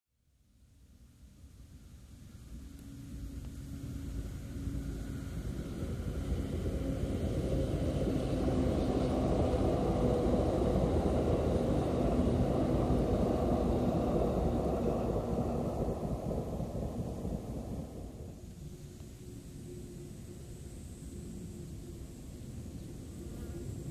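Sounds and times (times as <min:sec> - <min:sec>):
electric train passing at speed: 0:01.4 - 0:23.9.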